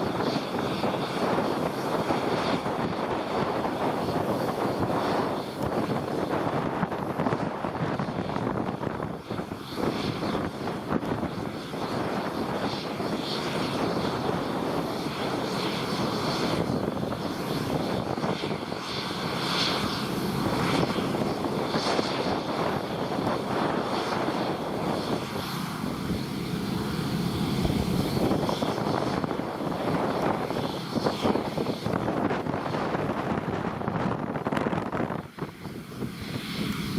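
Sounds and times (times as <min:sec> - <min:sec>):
combine harvester running: 0:00.0 - 0:32.2.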